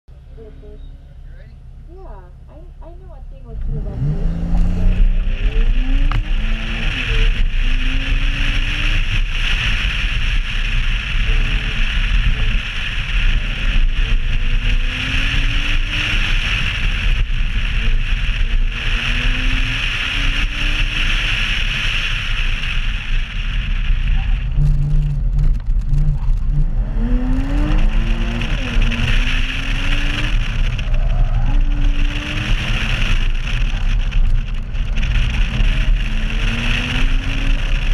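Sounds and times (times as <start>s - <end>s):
heavy low rumble: 0.1s - 37.9s
sports car engine revving: 1.6s - 37.9s.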